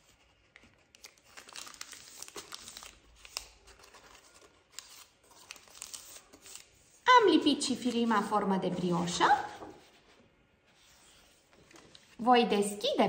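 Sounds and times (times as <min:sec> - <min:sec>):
paper liner crinkling: 0:00.0 - 0:08.4, 0:09.0 - 0:12.2.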